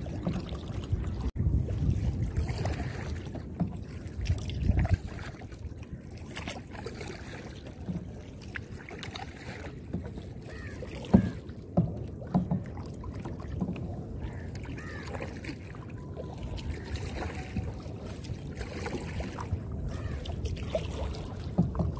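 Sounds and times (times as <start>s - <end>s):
paddle splashing in water: 0.0s - 21.9s.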